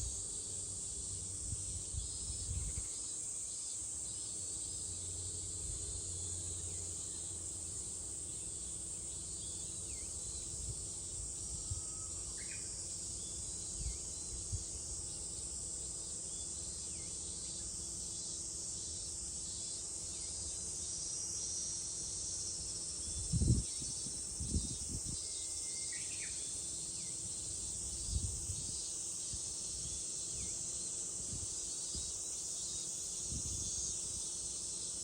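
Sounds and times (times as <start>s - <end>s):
cicadas chorus: 0.0s - 35.0s.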